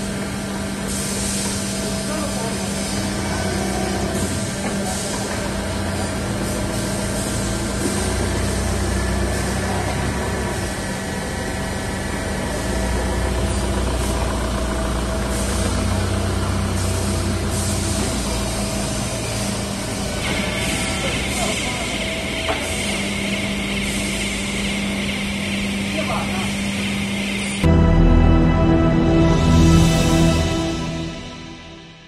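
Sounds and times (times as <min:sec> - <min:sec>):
hydraulic power unit humming: 0:00.0 - 0:31.9.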